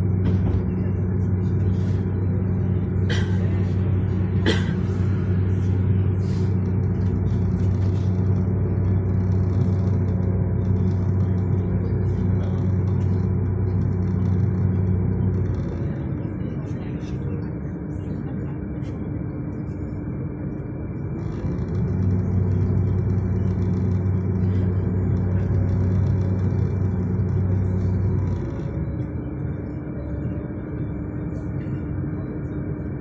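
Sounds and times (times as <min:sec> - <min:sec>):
tram hum: 0:00.0 - 0:33.0.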